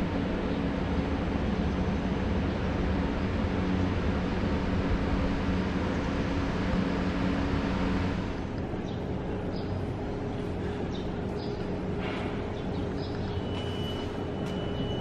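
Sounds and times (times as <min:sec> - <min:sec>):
train equipment humming: 0:00.0 - 0:15.0.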